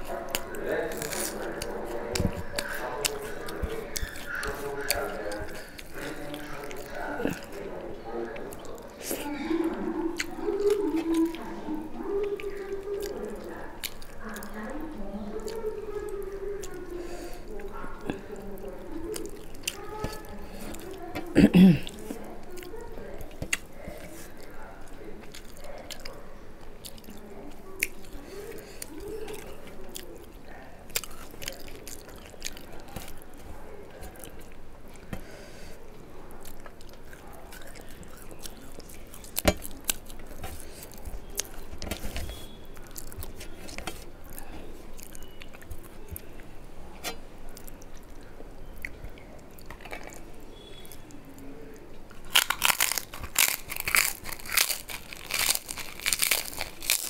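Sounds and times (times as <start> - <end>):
crisp food crunching: 0.0 - 16.9, 17.5 - 35.3, 36.3 - 57.0
close-up chewing: 0.0 - 57.0.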